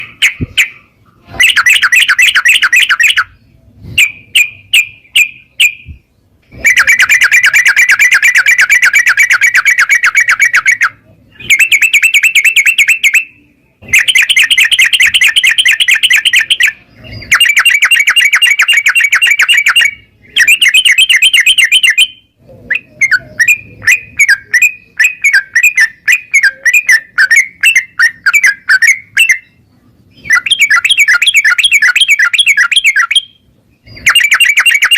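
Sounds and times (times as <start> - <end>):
bird singing rapid chirping phrases: 0.0 - 34.9.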